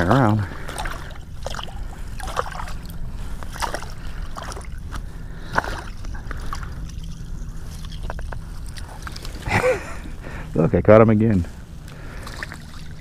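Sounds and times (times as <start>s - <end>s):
fish thrashing in water: 0.0s - 9.8s, 11.9s - 13.0s
water splashing and sloshing: 0.0s - 10.5s, 11.5s - 13.0s.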